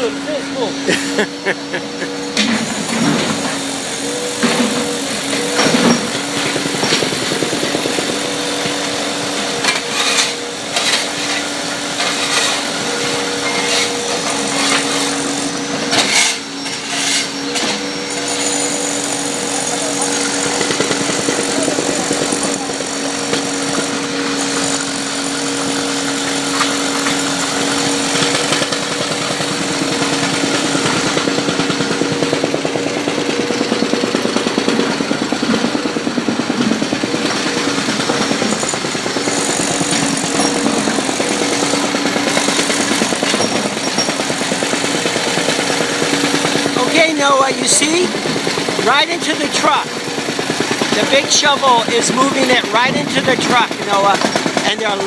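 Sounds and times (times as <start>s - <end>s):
jackhammer hammering: 0.0s - 55.0s
steady engine hum: 0.0s - 55.0s.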